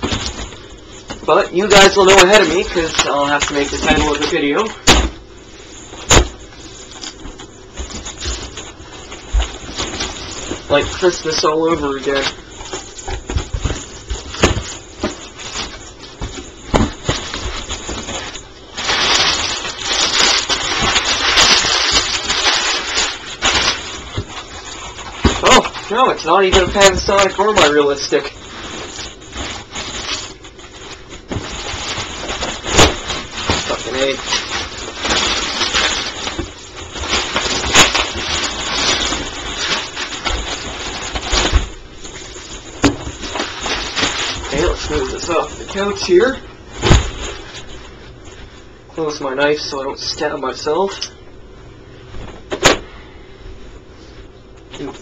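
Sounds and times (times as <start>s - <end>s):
packaging rustling: 0.0s - 48.0s.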